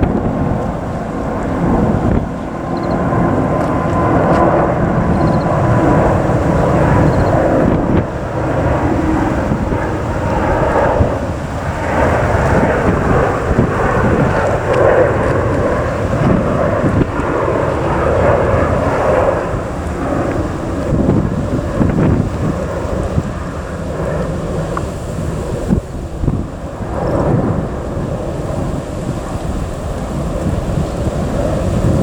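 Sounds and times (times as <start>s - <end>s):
jet engines rumbling: 0.0s - 32.0s
wind buffeting microphone: 0.0s - 32.0s.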